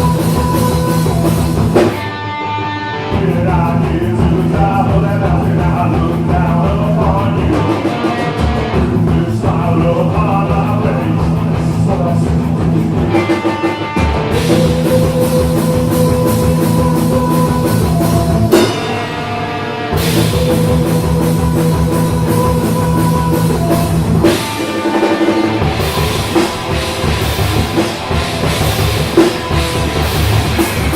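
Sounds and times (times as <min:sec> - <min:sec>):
punk rock band playing: 0:00.0 - 0:30.9.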